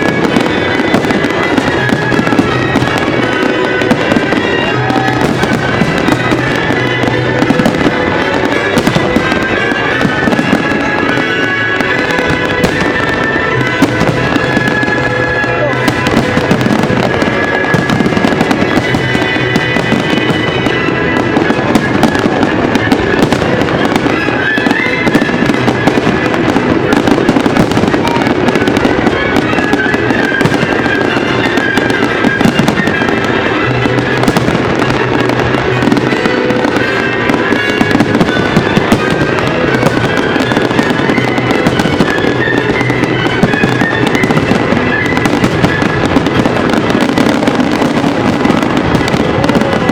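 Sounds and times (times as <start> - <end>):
fireworks bangs and crackles: 0.0 - 49.9
music playing: 0.0 - 49.9.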